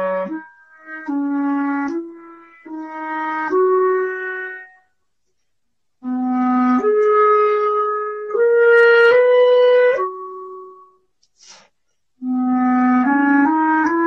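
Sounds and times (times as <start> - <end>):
clarinet playing held notes: 0.0 - 4.9, 6.0 - 11.0, 12.2 - 14.0.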